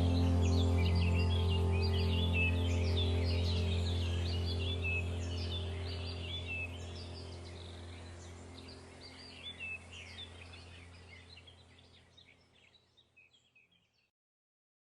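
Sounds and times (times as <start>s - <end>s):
steady low drone: 0.0s - 12.2s
small birds chirping: 0.0s - 14.1s.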